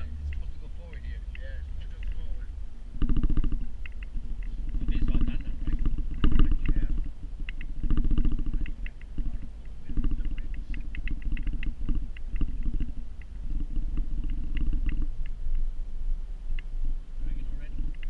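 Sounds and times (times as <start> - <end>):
clicks and rattles: 0.0 - 15.6
vehicle engine rumbling: 0.0 - 18.0.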